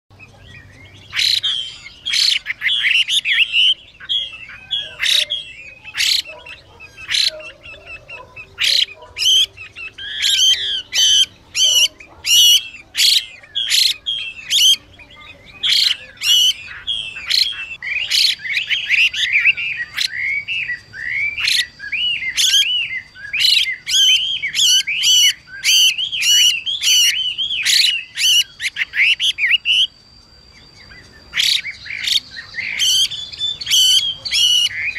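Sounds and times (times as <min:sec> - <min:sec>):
bird whistled song: 0:00.1 - 0:34.9
bird harsh hissing calls: 0:01.0 - 0:30.0, 0:31.3 - 0:34.9.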